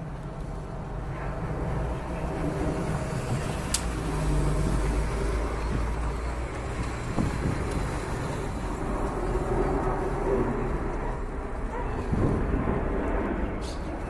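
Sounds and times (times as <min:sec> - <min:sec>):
jet engines low rumble: 0:00.0 - 0:14.0.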